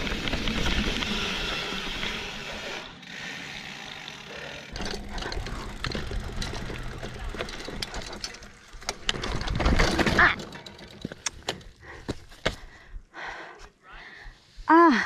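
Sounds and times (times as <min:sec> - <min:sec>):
bike clicks and rattles: 0:00.0 - 0:12.7
bike tyres on dirt trail: 0:00.0 - 0:12.9.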